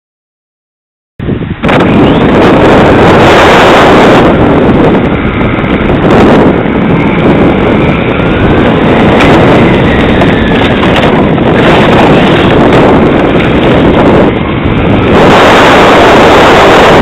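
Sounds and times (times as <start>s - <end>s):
electric motor whine: 1.6s - 17.0s
toy car rumble over asphalt: 1.6s - 17.0s.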